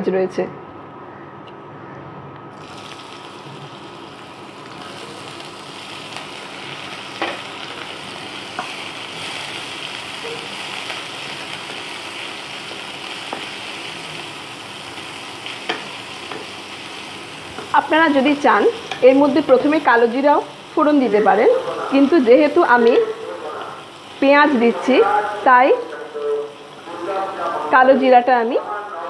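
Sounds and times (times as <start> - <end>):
onion sizzling in hot oil: 2.5 - 28.6.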